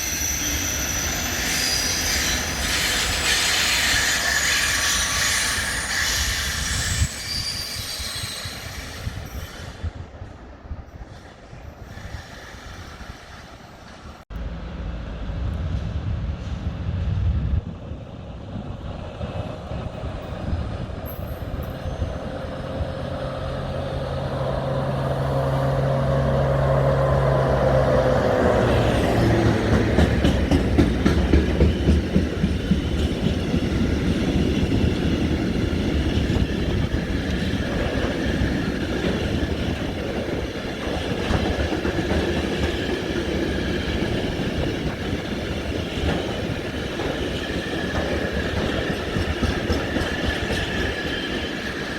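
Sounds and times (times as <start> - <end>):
train passing on rails: 0.0 - 51.9
train whine: 0.0 - 51.9.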